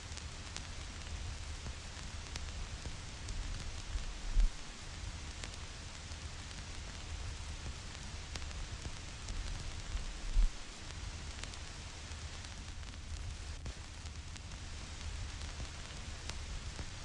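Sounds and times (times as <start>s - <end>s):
vinyl record crackle: 0.0s - 17.0s.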